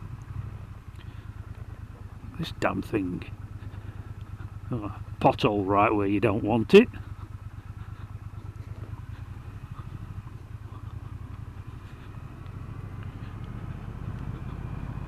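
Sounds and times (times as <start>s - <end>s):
motorcycle low rumble: 0.0s - 15.0s.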